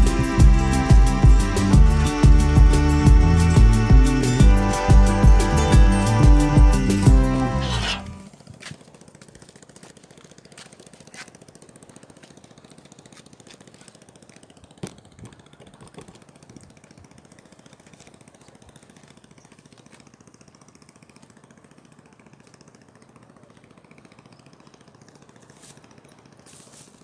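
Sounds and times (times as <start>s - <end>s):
faint engine running: 0.0s - 27.0s.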